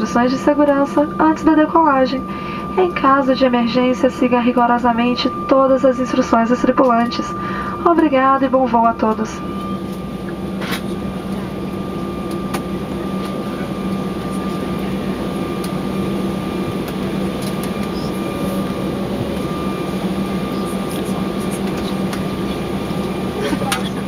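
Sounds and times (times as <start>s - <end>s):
airliner cabin engine rush: 0.0s - 24.0s
high whine: 0.0s - 24.0s.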